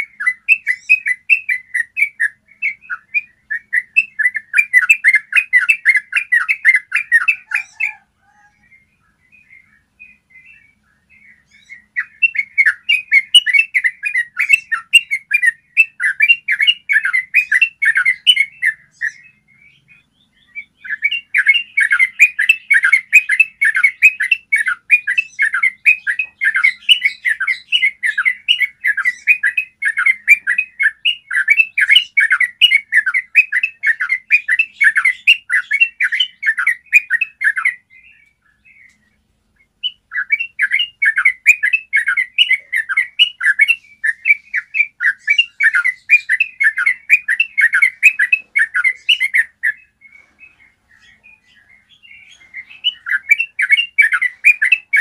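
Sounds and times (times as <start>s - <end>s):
bird singing rapid chattering notes: 0.0s - 55.0s.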